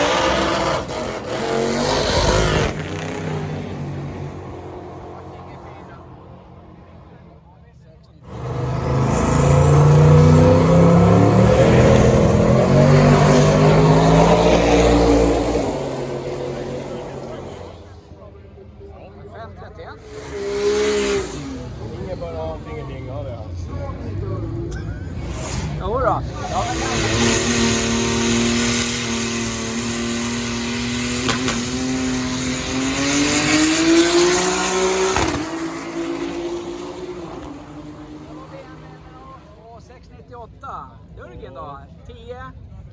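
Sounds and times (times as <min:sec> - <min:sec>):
race car engine revving: 0:00.0 - 0:07.4, 0:08.2 - 0:18.2, 0:19.4 - 0:39.9.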